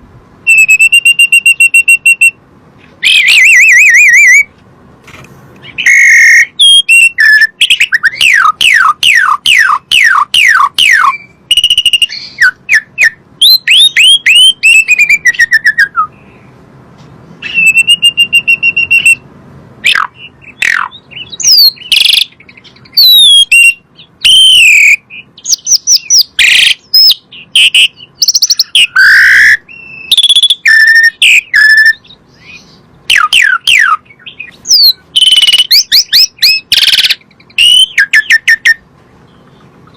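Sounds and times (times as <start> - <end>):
starling singing whistles: 0.5 - 2.4, 3.0 - 4.5, 5.6 - 16.2, 17.4 - 19.2, 19.8 - 38.8.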